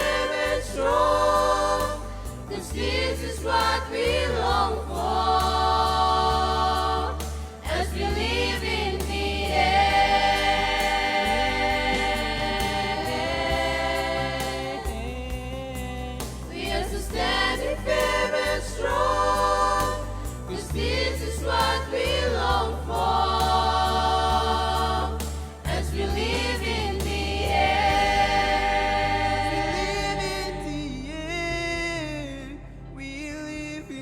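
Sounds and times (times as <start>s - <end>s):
choir singing in harmony: 0.0s - 31.6s
low bass accompaniment: 0.0s - 34.0s.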